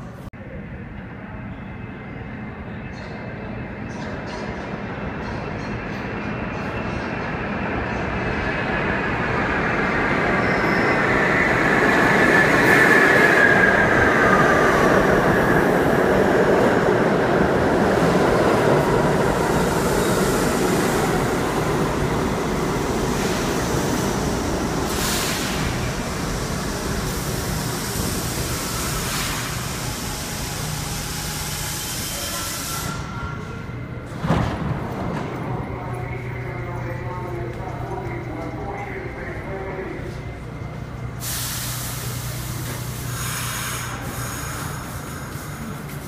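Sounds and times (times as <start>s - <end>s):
subway train braking: 0.0s - 46.0s.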